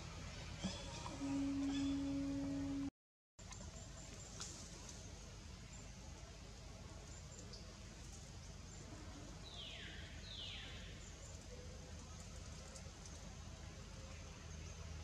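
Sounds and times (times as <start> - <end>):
faint forest background: 0.0 - 15.0.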